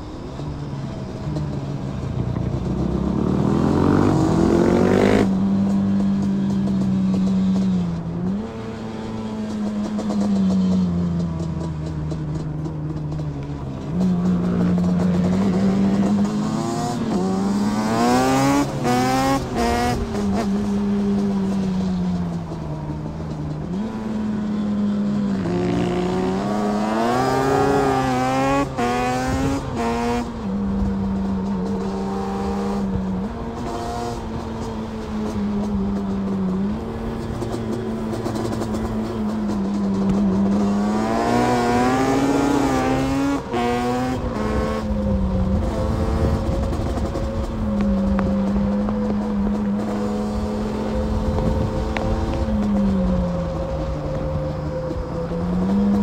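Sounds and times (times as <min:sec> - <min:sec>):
motorcycle engine revving: 0:00.0 - 0:56.0
other motorcycle engines revving: 0:00.9 - 0:56.0.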